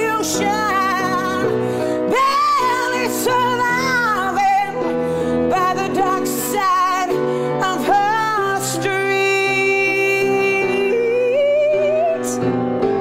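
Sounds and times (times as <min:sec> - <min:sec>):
woman singing with vibrato: 0:00.0 - 0:12.5
piano chords: 0:00.0 - 0:13.0.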